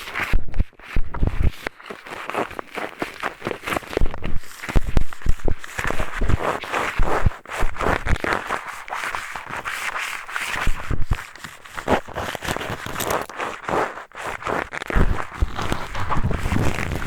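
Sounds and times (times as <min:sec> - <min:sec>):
scratching inside microphone ear: 0:00.0 - 0:17.0.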